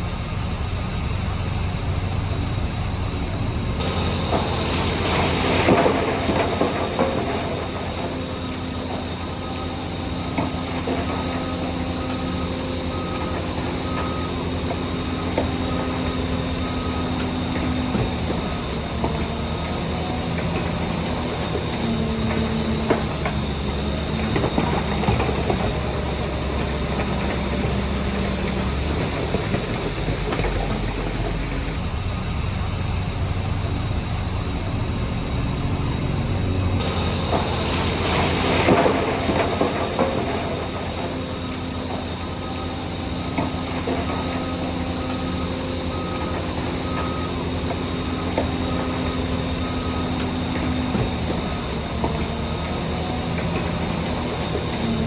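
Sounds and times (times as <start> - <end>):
bulldozer diesel engine: 0.0 - 55.0
steel tracks clanking and squeaking: 0.0 - 55.0.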